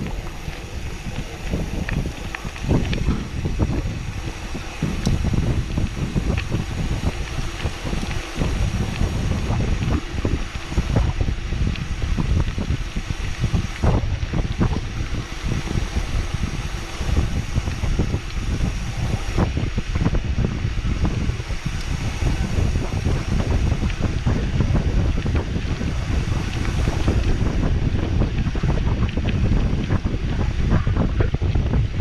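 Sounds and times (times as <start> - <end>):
steady rumble: 0.0 - 32.0
wind buffeting microphone: 0.0 - 32.0.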